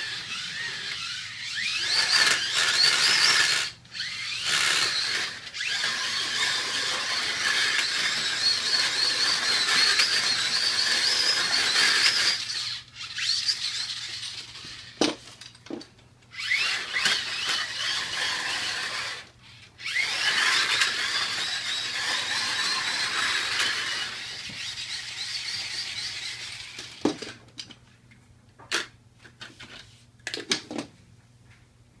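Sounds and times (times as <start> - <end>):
slot car motors whining: 0.0 - 15.0, 16.3 - 27.0.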